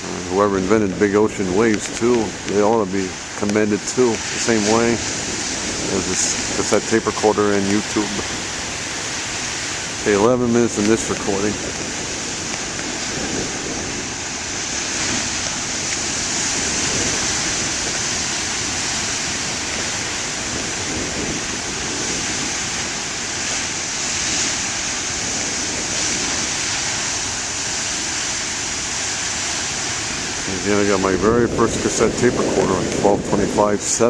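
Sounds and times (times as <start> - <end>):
ocean waves breaking: 0.0 - 34.0.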